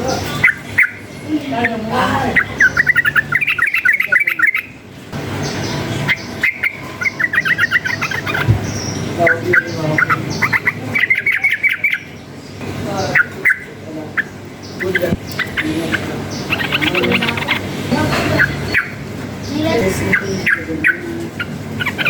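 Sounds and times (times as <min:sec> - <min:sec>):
bird singing chattering runs: 0:00.0 - 0:22.0.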